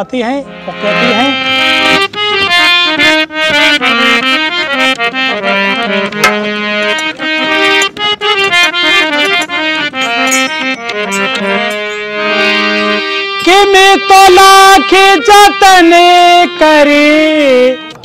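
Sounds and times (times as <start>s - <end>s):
harmonium melody: 0.0s - 18.0s.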